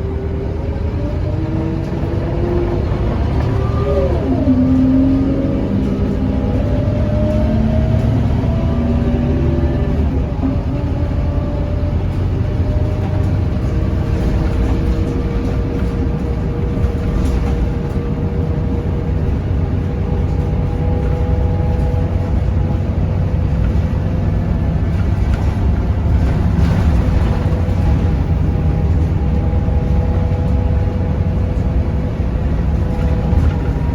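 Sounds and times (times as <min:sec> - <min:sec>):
bus diesel engine drone: 0:00.0 - 0:33.9.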